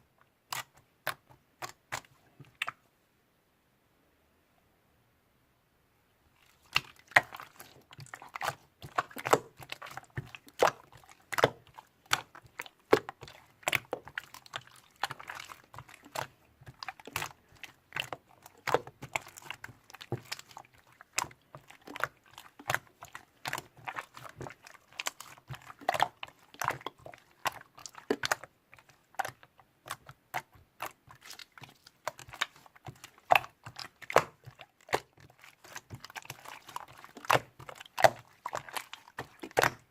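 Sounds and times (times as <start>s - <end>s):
crunching and crackling clicks: 6.4s - 39.9s.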